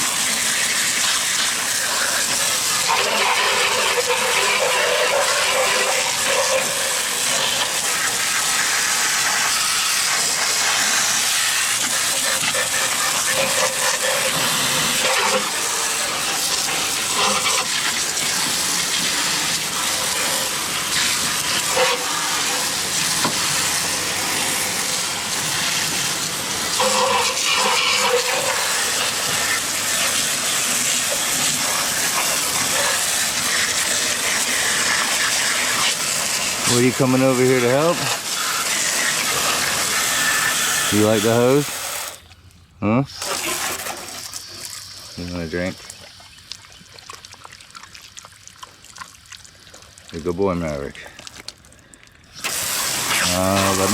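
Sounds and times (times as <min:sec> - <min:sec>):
garden hose spraying water: 0:00.0 - 0:53.9.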